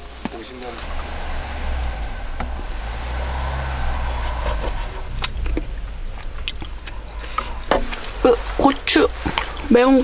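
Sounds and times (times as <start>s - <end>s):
steady low rumble: 0.8s - 9.8s.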